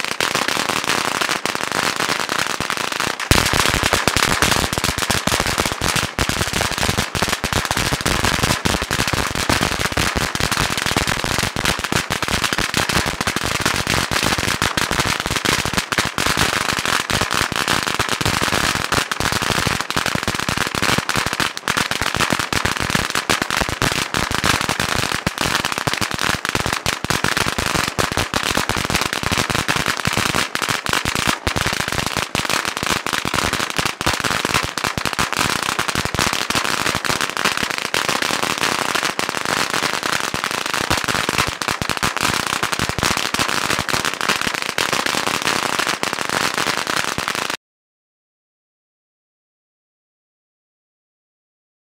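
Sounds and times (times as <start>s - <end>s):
firecracker roll crackling: 0.0s - 47.6s.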